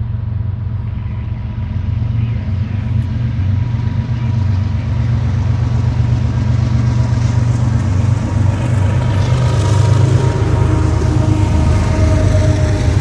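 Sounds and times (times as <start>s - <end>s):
diesel locomotives passing: 0.0s - 13.0s.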